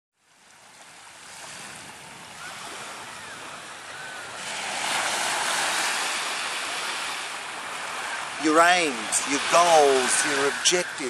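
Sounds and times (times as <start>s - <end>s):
small waves washing onto sand: 0.2s - 11.0s
wind on microphone: 1.0s - 11.0s.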